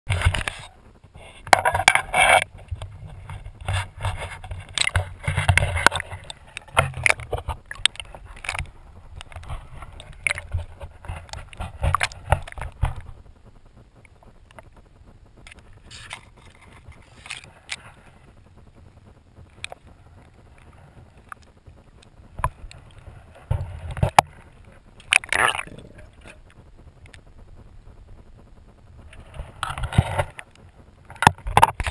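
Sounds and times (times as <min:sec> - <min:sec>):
faint clicks: 0:00.1 - 0:31.9
low underwater rumble: 0:00.1 - 0:31.9.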